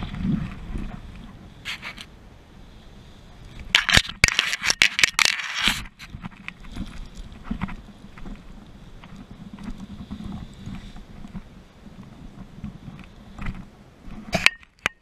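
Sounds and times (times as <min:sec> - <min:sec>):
gear scraping and rustling on ground: 0:00.0 - 0:14.8.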